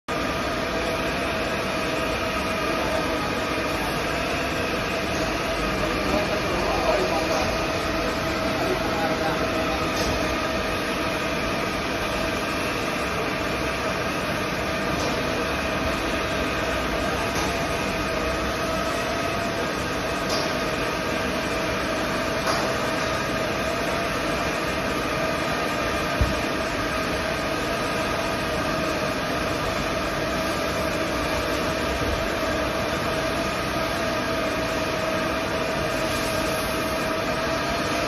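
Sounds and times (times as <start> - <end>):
hot-air welder blower hiss: 0.5 - 38.0.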